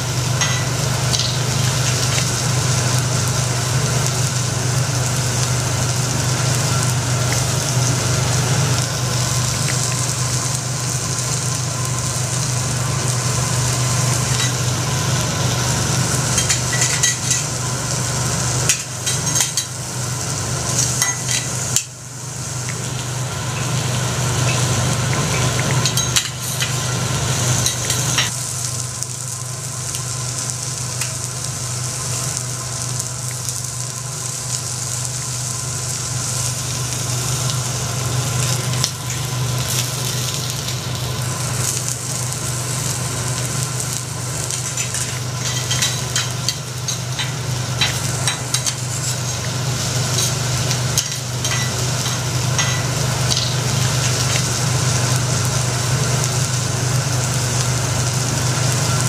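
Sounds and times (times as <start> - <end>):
food sizzling on a griddle: 0.0 - 59.0
steady low hum: 0.0 - 59.0.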